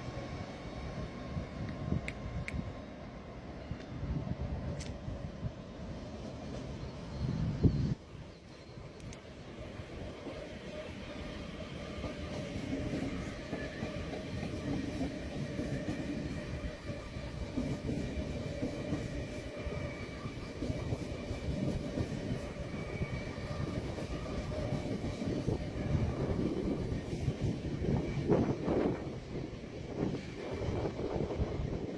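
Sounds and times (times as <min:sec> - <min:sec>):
faint train whine: 0:00.0 - 0:31.9
train wheels rumbling on rail: 0:00.0 - 0:31.9.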